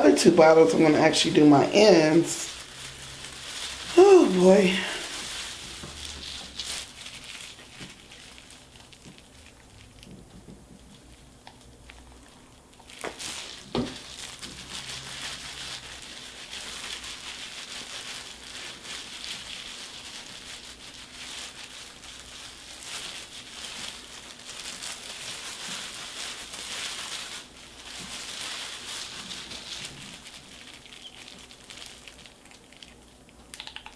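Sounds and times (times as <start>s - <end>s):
plastic gloves crinkling and rustling: 0.0s - 33.9s.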